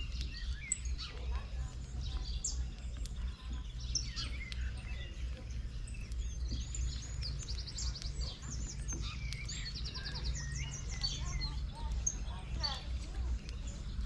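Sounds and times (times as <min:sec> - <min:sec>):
bird trill: 0:00.0 - 0:13.8
small birds chirping: 0:00.0 - 0:14.0.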